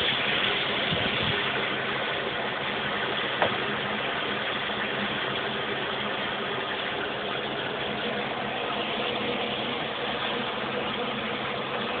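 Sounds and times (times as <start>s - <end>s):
filter pump humming: 0.0s - 12.0s.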